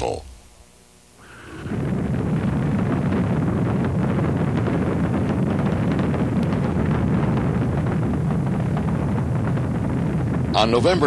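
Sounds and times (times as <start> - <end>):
rocket engines deep rumble: 0.0 - 11.0.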